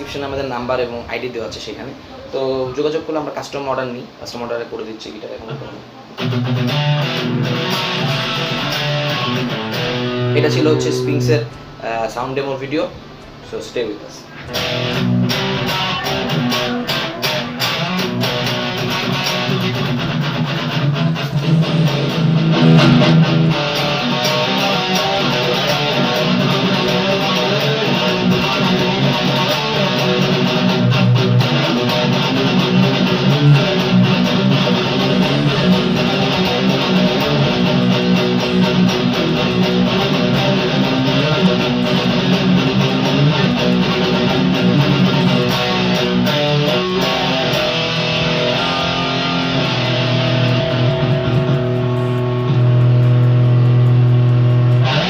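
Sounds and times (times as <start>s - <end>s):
guitar strummed and picked chords: 6.1s - 12.0s, 14.3s - 55.0s.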